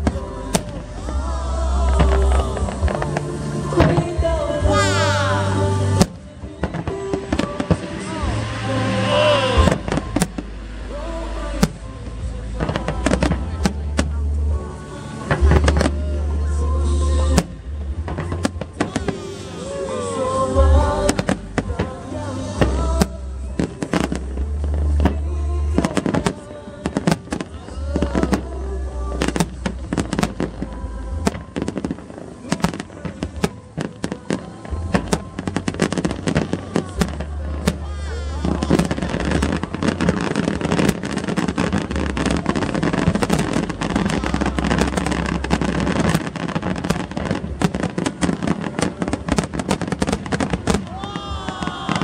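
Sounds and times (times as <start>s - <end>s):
fireworks bangs and crackle: 0.0s - 52.0s
show music over loudspeakers: 0.0s - 52.0s.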